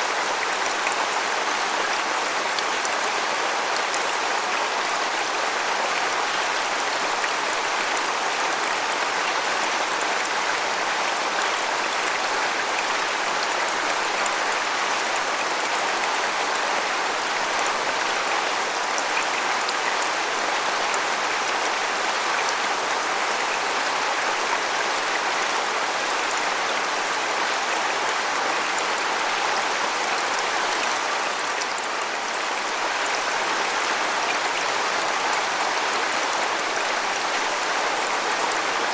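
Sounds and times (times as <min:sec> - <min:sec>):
waterfall: 0:00.0 - 0:38.9.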